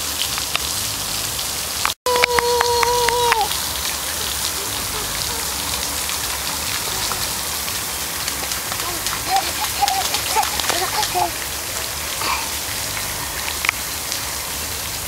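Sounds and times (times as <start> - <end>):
rain pattering on ground: 0.0 - 15.0.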